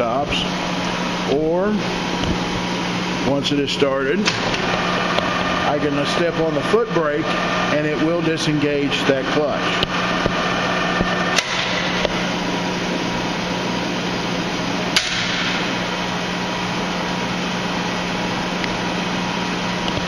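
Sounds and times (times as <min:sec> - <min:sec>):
lathe humming: 0:00.0 - 0:20.0.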